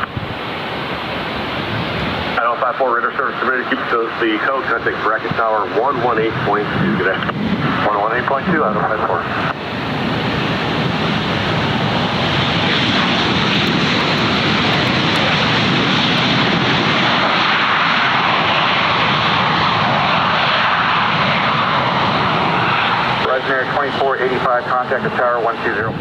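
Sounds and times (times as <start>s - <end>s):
airliner engines running: 0.0s - 26.0s.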